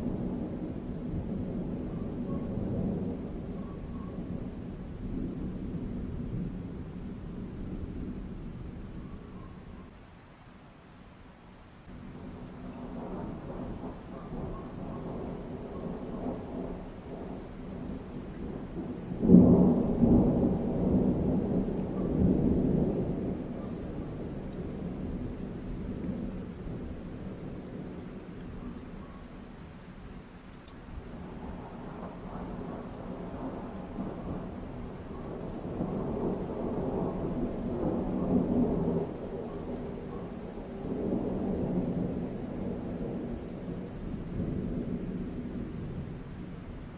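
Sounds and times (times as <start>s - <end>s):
thunder rumbling: 0.0s - 9.5s, 11.9s - 29.8s, 30.9s - 46.9s.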